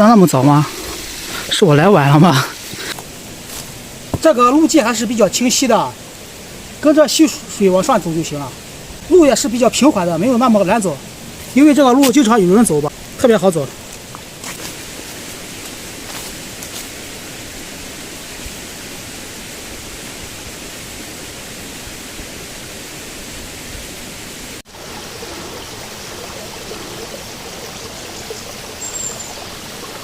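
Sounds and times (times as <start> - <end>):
stream running over rocks: 0.0 - 30.0.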